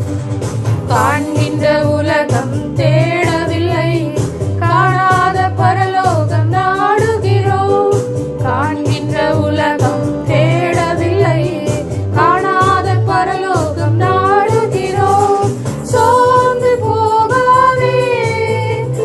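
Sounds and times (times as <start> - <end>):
electronic keyboard with beat: 0.0 - 19.0
women singing in unison: 0.9 - 19.0.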